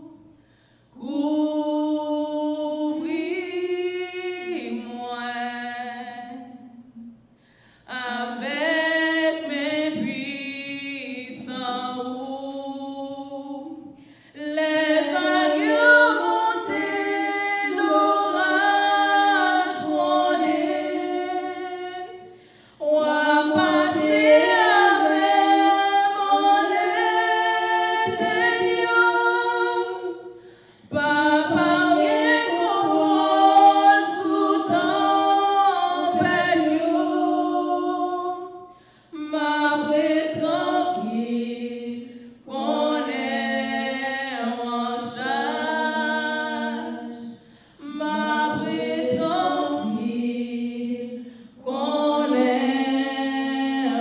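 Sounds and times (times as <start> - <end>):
woman singing unaccompanied: 1.0 - 6.9, 7.9 - 30.3, 30.9 - 38.6, 39.2 - 54.0.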